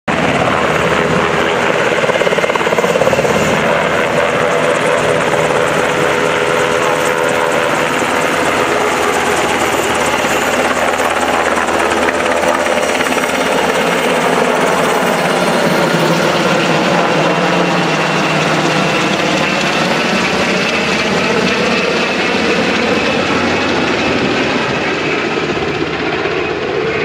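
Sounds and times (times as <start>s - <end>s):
helicopter roaring overhead: 0.1s - 27.0s.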